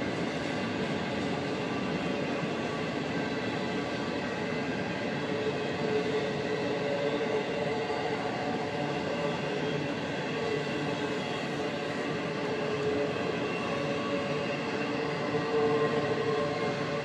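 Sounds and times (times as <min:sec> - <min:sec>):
freight train rolling: 0:00.0 - 0:17.0.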